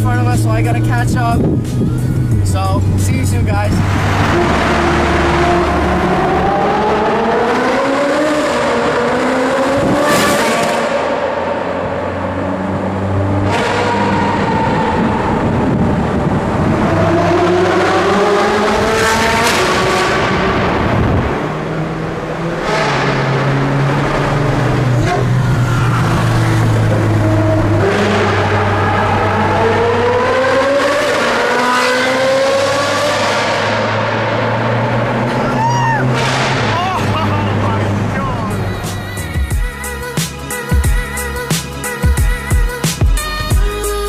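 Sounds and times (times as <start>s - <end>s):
sports car engine accelerating: 0.0s - 39.4s.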